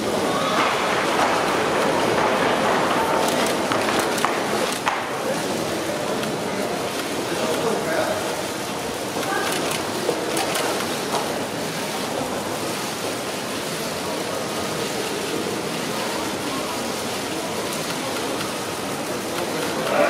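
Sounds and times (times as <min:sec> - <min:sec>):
crowd din in a large hall: 0:00.0 - 0:20.0.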